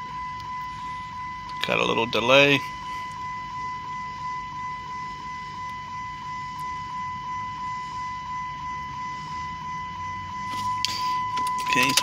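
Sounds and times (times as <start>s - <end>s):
pulsing electronic warning tone: 0.0s - 12.0s.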